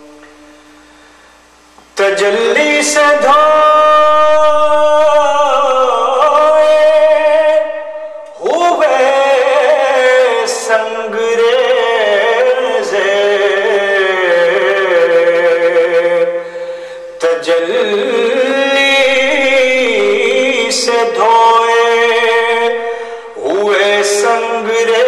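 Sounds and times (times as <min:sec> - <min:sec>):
man singing: 0:02.0 - 0:25.0.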